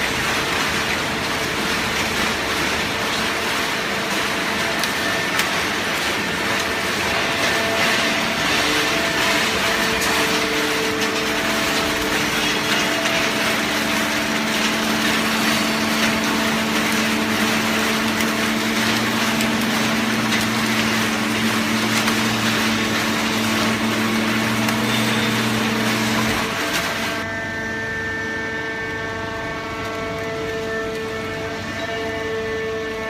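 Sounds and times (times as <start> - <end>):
baler machine hum: 0.0 - 33.0
mechanical noise: 0.0 - 33.0.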